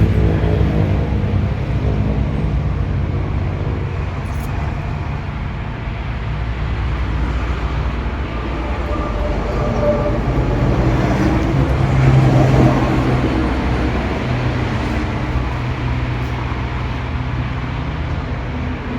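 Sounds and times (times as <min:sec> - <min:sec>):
traffic rumble: 0:00.0 - 0:18.9
vehicle engine hum: 0:00.0 - 0:18.9.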